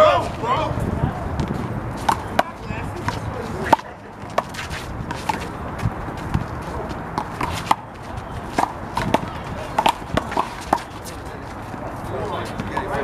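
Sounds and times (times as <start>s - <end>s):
shoes scuffing on court: 1.4s - 13.0s.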